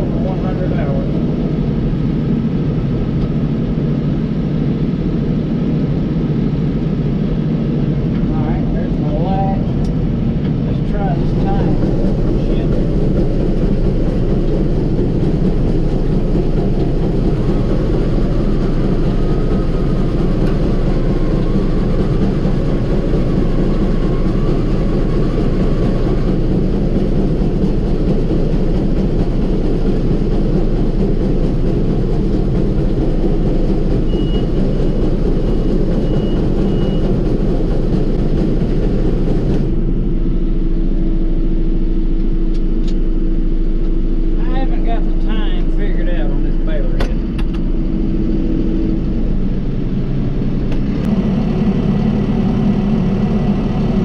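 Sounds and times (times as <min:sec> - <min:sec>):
tractor diesel engine under load: 0:00.0 - 0:04.3, 0:07.1 - 0:54.0
steady hum: 0:00.0 - 0:54.0.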